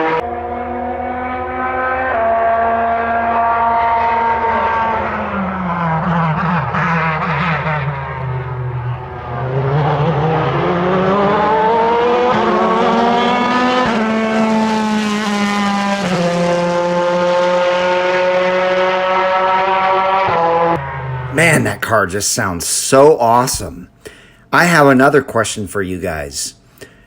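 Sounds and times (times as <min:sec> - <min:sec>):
race car engine at full throttle: 0:00.0 - 0:21.8.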